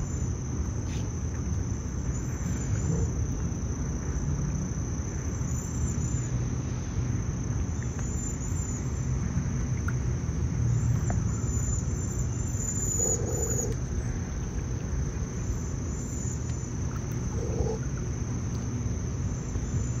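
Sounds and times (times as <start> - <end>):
insect chorus: 0.0 - 20.0
low outdoor rumble: 0.0 - 20.0.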